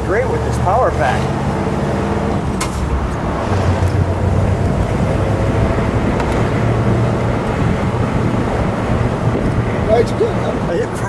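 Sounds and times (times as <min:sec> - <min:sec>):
car engine rumbling: 0:00.0 - 0:11.0
road and wind noise: 0:00.0 - 0:11.0.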